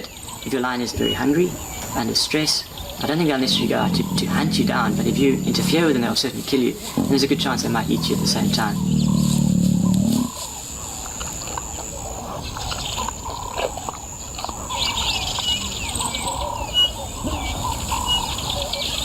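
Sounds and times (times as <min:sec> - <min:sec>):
birds chirping and warbling: 0:00.0 - 0:19.0.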